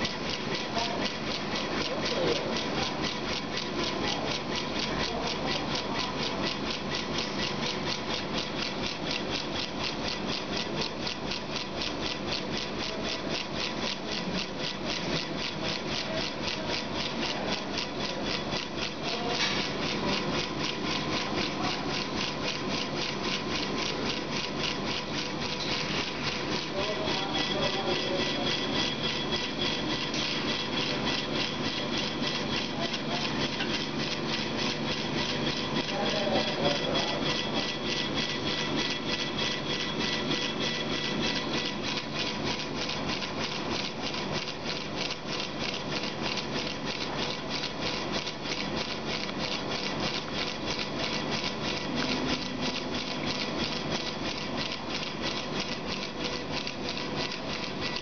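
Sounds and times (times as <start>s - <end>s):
engraving head rapid ticking: 0.0s - 58.0s.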